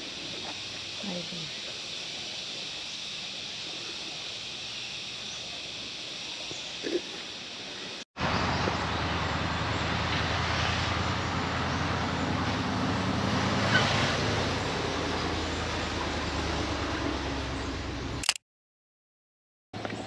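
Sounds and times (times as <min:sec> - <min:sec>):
road noise: 0:00.0 - 0:18.4.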